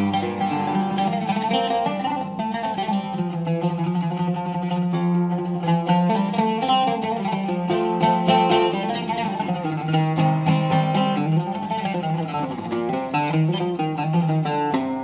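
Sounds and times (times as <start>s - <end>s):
solo oud melody: 0.0s - 15.0s.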